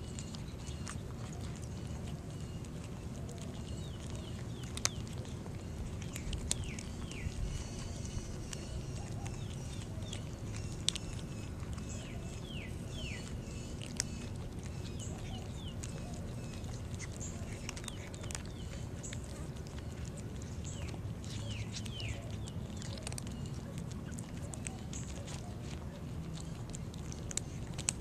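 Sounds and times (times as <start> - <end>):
birds chirping: 0.0 - 28.0
kittens crunching dry food: 0.0 - 28.0
steady low rumble: 0.0 - 28.0.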